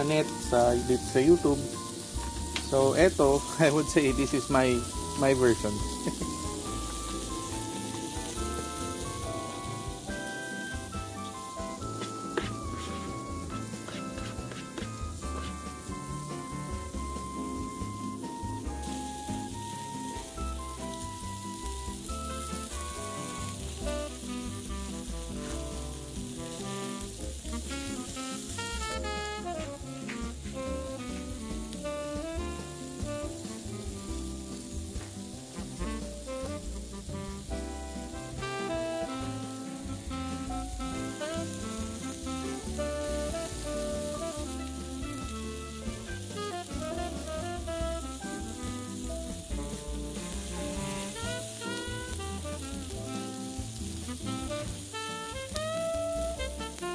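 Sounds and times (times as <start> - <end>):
chicken sizzling on a grill: 0.0 - 56.9
soft bossa nova music: 0.0 - 56.9.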